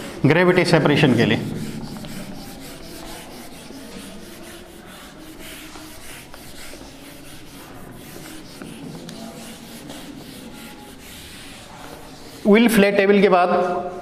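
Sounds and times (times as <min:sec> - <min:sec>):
duster wiping whiteboard: 0:00.0 - 0:13.0.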